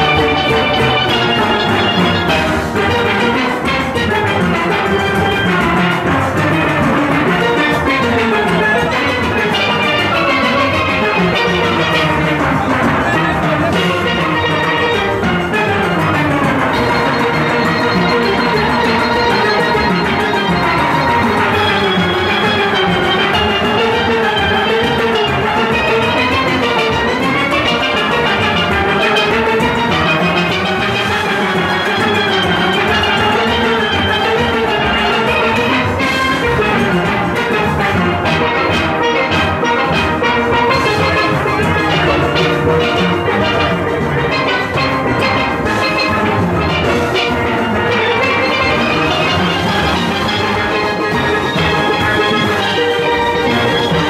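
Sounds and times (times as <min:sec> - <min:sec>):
drums and percussion beat: 0:00.0 - 0:54.0
steel pans playing melody: 0:00.0 - 0:54.0.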